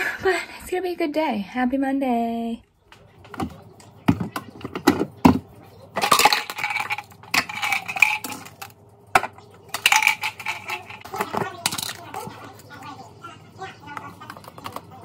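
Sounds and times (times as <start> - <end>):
kitchenware clinking and clattering: 2.9 - 15.0.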